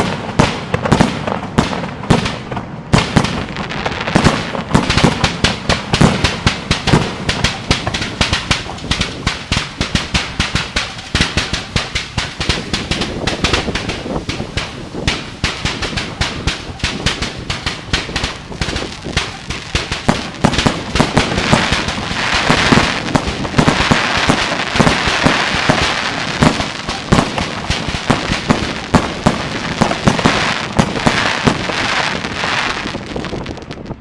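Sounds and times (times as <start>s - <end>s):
fireworks bangs and crackle: 0.0s - 34.0s.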